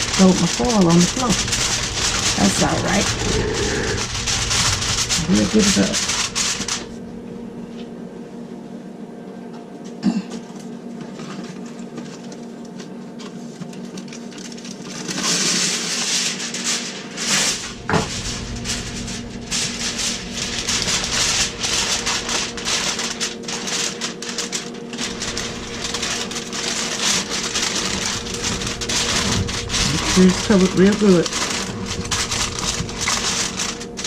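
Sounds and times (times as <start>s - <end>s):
aluminium foil crinkling: 0.0s - 7.0s, 10.4s - 34.0s
steady low hum: 0.0s - 12.9s, 16.0s - 34.0s.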